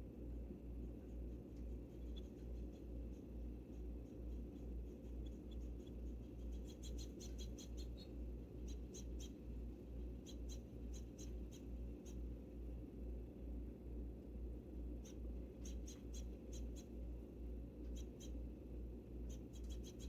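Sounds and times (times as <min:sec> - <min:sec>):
low pulsing hum: 0:00.0 - 0:20.0.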